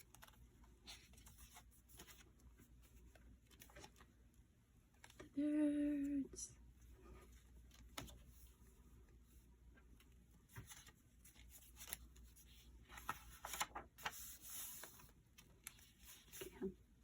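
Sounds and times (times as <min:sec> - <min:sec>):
paper pages rustling: 0:00.0 - 0:05.2, 0:07.2 - 0:16.7.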